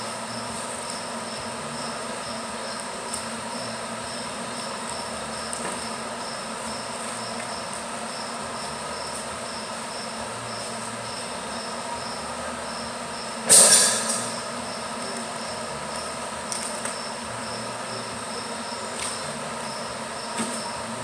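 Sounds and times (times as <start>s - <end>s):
workshop hum: 0.0s - 21.0s.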